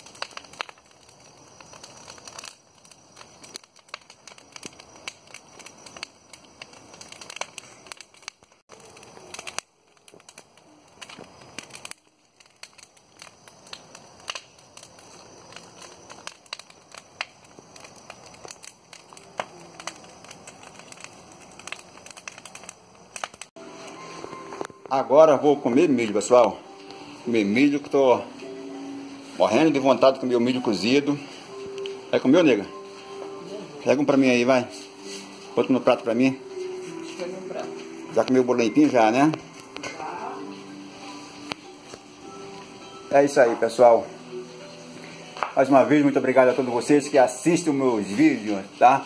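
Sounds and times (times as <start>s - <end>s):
bonfire crackling and popping: 0.0s - 49.0s.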